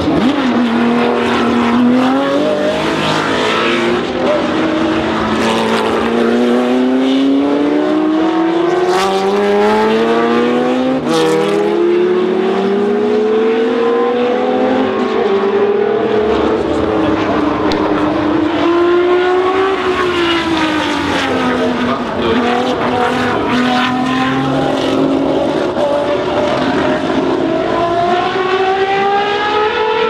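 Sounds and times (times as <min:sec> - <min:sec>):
racing engine accelerating: 0:00.0 - 0:30.0.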